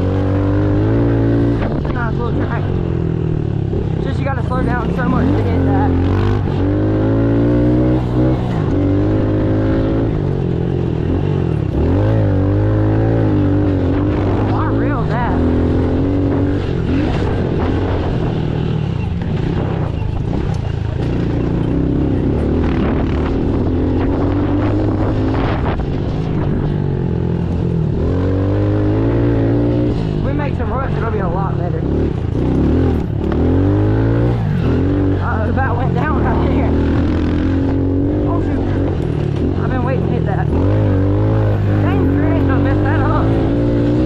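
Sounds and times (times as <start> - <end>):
motorbike engine revving: 0.0 - 44.0.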